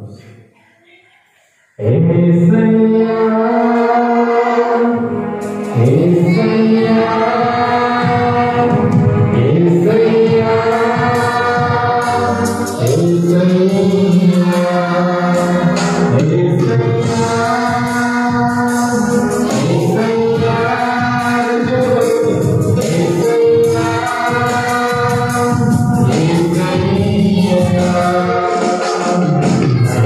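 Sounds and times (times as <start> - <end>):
voices singing worship song: 0.0 - 30.0
electronic keyboard: 1.8 - 30.0.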